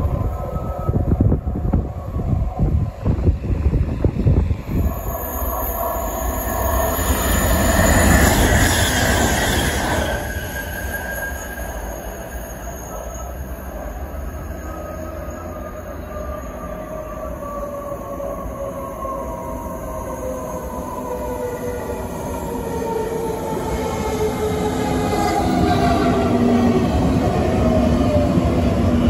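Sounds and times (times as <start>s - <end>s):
train rumbling on rails: 0.0s - 29.0s
wheels squealing on rails: 0.0s - 29.0s.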